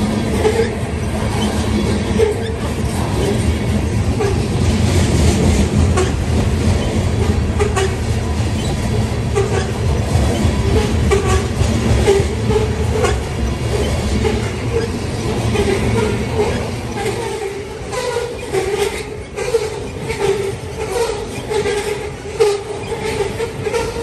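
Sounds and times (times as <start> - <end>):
clickety-clack over rail joints: 0.0 - 24.0
steel wheels rumbling on rail: 0.0 - 24.0.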